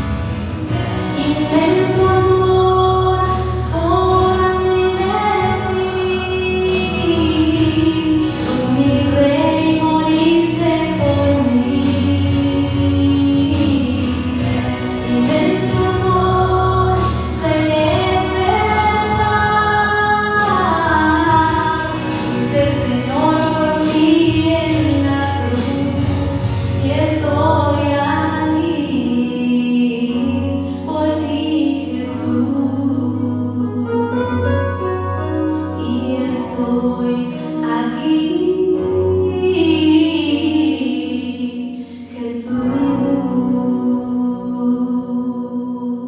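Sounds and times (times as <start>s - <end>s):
woman singing worship song: 0.0s - 34.8s, 35.6s - 46.0s.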